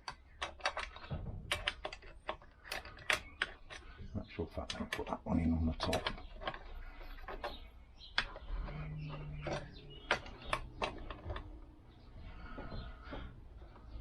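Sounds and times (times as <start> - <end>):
tools clicking and tapping: 0.0 - 14.0.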